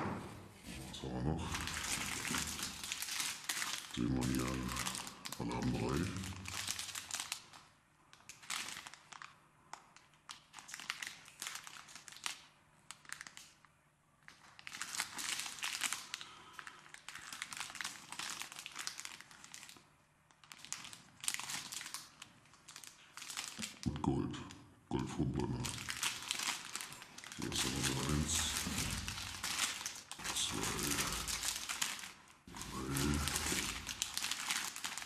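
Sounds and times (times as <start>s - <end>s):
plastic packaging crinkling: 1.0s - 23.9s, 25.5s - 35.0s.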